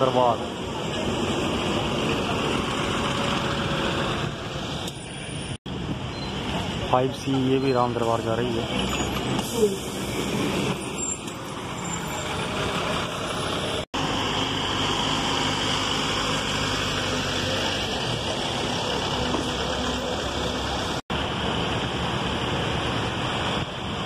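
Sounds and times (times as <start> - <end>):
buses driving past: 0.0 - 24.0.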